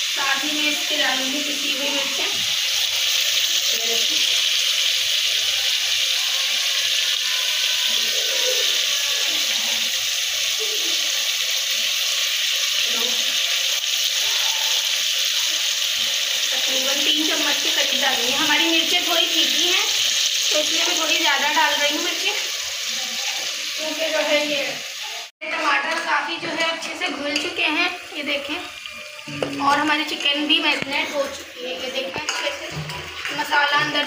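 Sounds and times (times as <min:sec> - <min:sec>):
tomatoes sizzling in hot oil: 0:00.0 - 0:34.0.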